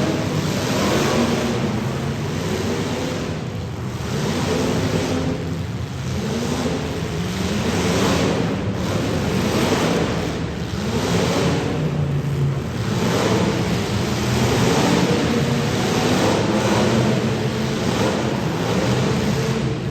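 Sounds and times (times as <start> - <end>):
car engines revving: 0.0 - 19.9
loud rushing noise: 0.0 - 19.9.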